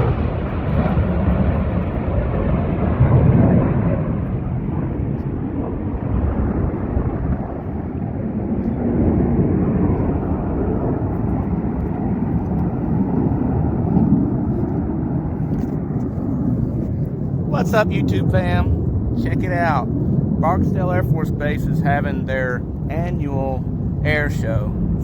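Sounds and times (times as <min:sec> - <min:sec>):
jet engines roaring in flight: 0:00.0 - 0:25.0.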